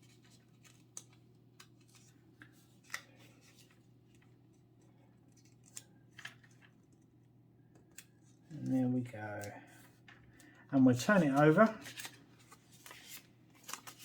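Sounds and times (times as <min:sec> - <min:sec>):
paper being folded and creased: 0:00.0 - 0:04.6, 0:05.2 - 0:07.2, 0:07.9 - 0:14.0.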